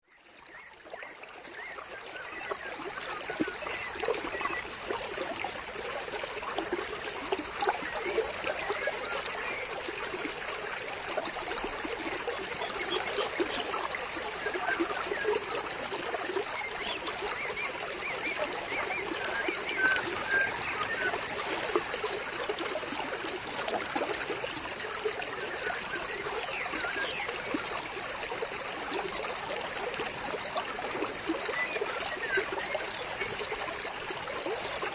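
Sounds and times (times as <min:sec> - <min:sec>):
stream of water trickling: 0:00.0 - 0:34.9.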